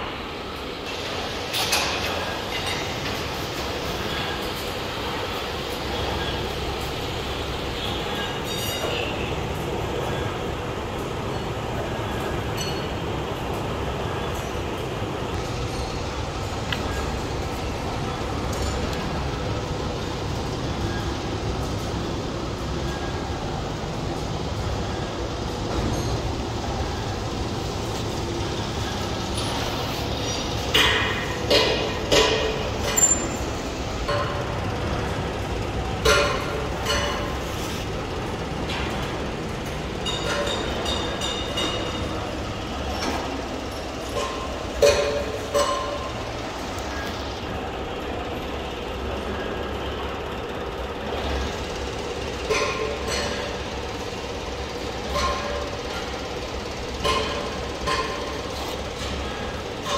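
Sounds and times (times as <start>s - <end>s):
workshop machinery running: 0.0s - 59.9s.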